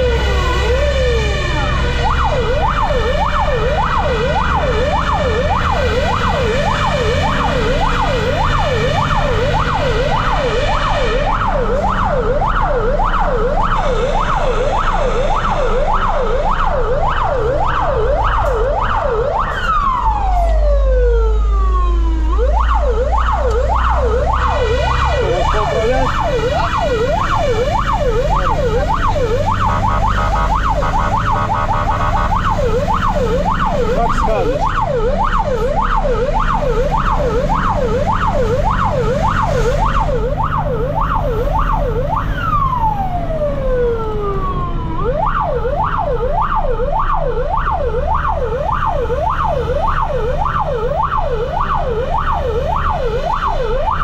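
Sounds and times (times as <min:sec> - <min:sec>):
fire engine siren yelping: 0:00.0 - 0:54.0.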